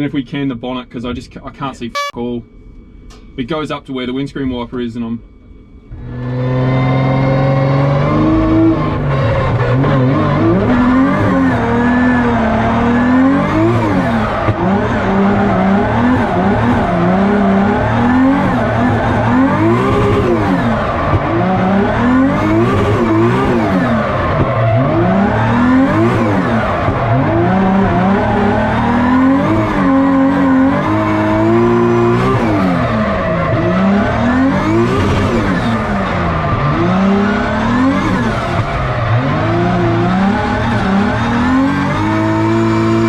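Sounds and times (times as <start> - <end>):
car engine revving: 5.9 - 43.0.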